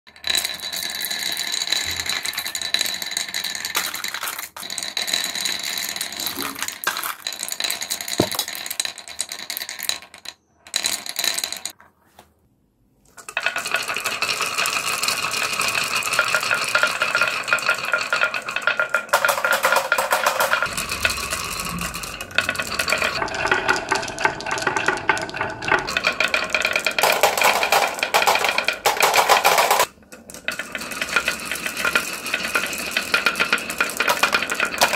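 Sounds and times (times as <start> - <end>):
marbles clattering on wooden track: 0.1 - 11.8, 13.1 - 34.9.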